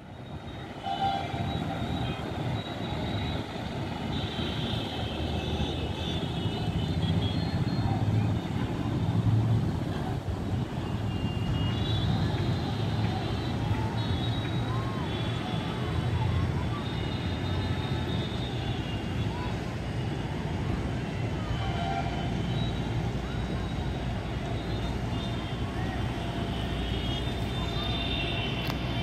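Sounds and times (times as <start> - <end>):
low rumble of trains and traffic: 0.0 - 29.0.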